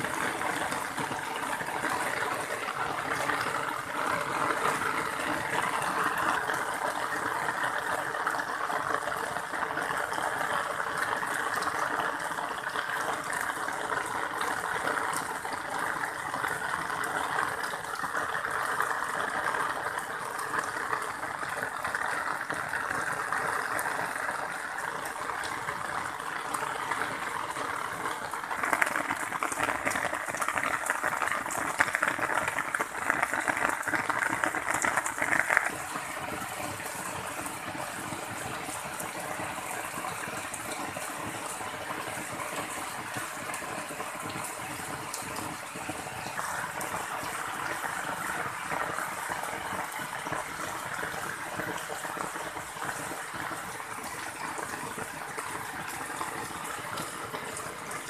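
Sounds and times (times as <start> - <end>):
heavy rain falling: 0.0 - 58.0
water rushing along gutter: 0.0 - 58.0.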